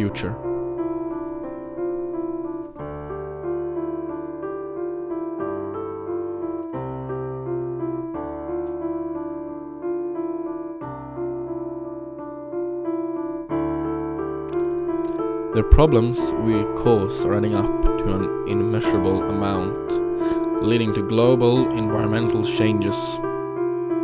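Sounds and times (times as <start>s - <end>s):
slow piano piece: 0.0s - 24.0s.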